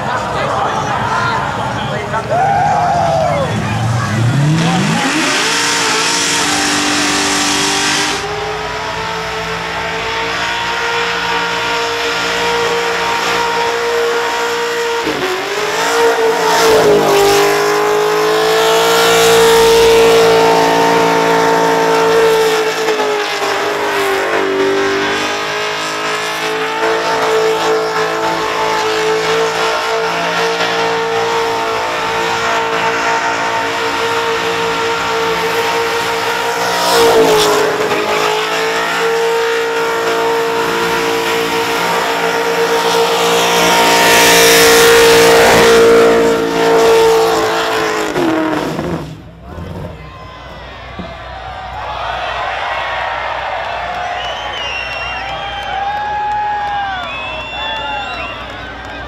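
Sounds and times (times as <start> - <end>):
car engine at high revs: 0.0 - 50.1.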